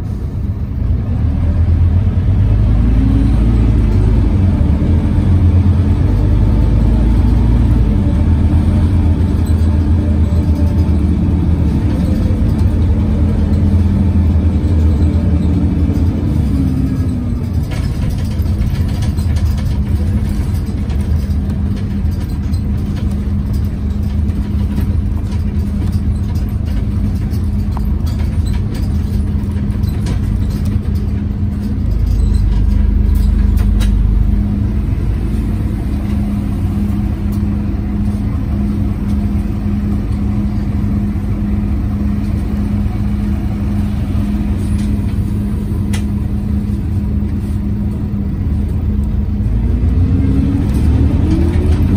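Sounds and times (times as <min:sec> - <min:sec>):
bus engine cooling fan drone: 0:00.0 - 0:51.9
deep low rumble: 0:00.0 - 0:51.9
low road rumble: 0:00.0 - 0:51.9.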